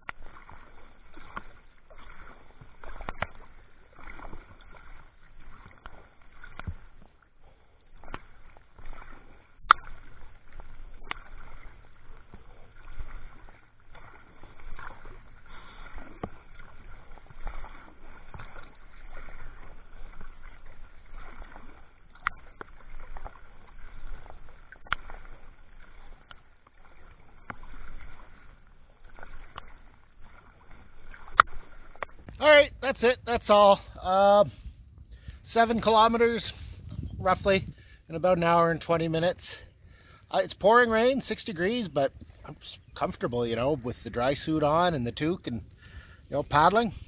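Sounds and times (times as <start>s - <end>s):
paddle splashing water: 0.0s - 47.0s.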